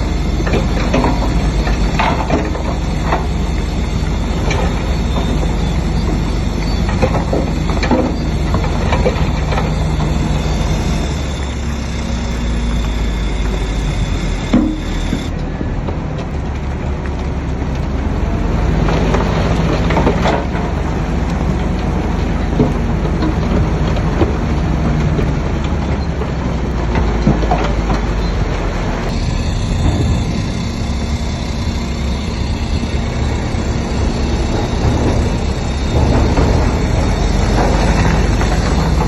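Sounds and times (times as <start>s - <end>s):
diesel engine rumbling under load: 0.0s - 39.0s.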